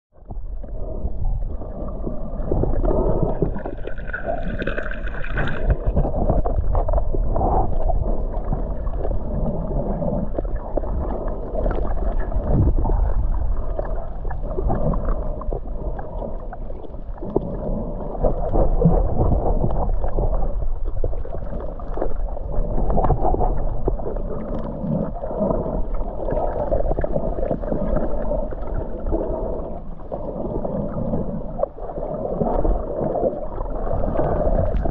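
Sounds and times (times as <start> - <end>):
muffled underwater wash: 0.1 - 34.9
water gurgling: 0.2 - 34.9.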